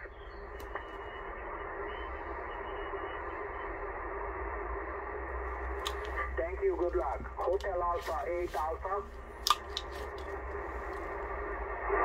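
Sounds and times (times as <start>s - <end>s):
low hum: 0.0s - 12.0s
radio static hiss: 0.0s - 12.0s.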